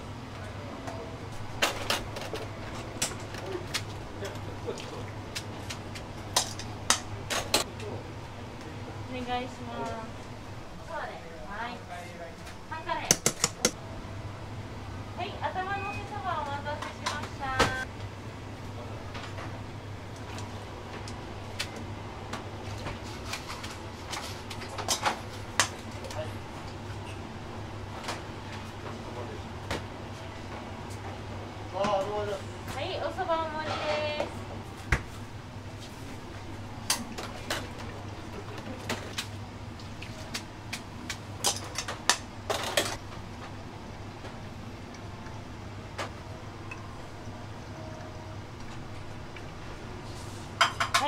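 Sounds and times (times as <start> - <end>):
low hum of kitchen equipment: 0.0 - 51.0.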